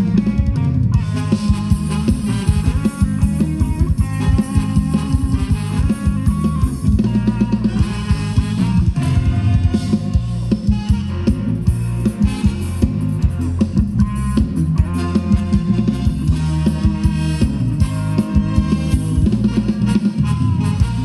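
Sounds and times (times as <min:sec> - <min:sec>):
bass line: 0:00.0 - 0:21.0
drum kit with rimshots: 0:00.0 - 0:21.0
live band dance music: 0:00.0 - 0:21.0
sustained keyboard or horn notes: 0:00.0 - 0:21.0.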